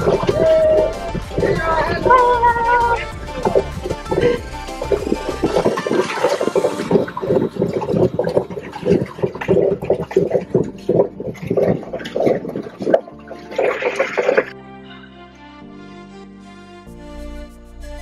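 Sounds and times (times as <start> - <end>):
paddle wheel splashing water: 0.0 - 14.6
soft background music: 0.0 - 18.0.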